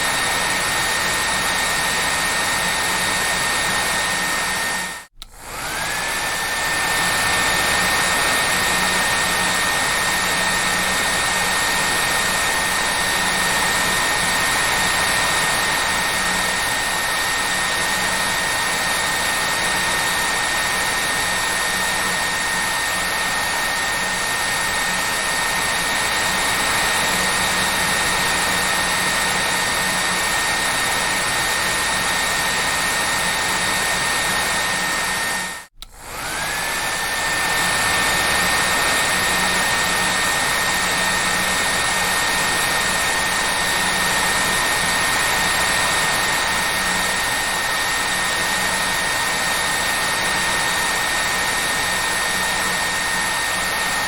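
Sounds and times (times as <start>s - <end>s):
hair dryer blowing: 0.0s - 54.0s.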